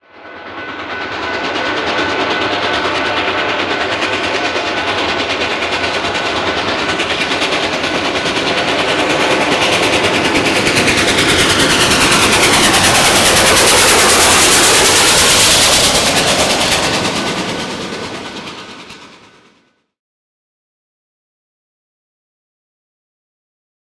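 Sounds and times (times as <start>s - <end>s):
train wheels clattering: 0.2s - 19.6s.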